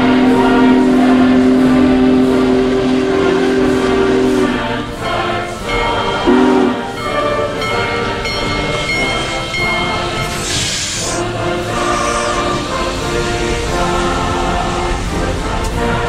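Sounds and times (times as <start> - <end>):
choral music: 0.0 - 16.0
steam locomotive whistle: 0.0 - 16.0.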